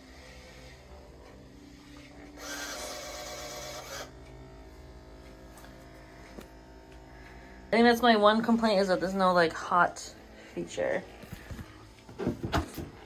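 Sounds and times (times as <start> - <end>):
robot mop motor hum: 0.0 - 13.0.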